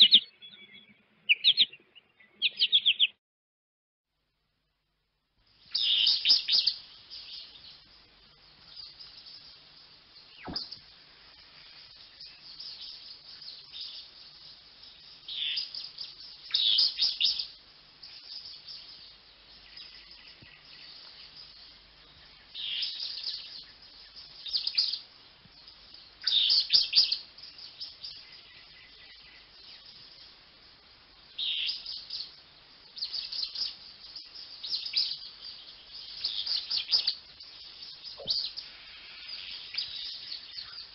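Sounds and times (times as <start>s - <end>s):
faint twittering: 5.4s - 40.9s
finches singing: 5.6s - 30.4s, 31.1s - 40.9s.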